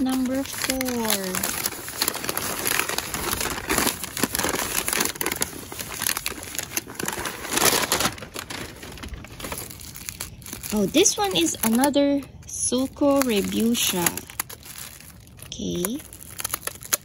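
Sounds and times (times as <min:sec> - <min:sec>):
wrapping paper crinkling: 0:00.0 - 0:17.0.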